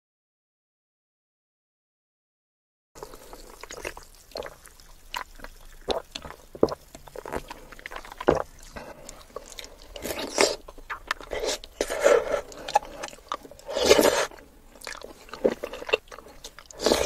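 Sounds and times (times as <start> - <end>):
wet mouth sips and slurps: 3.0 - 17.0.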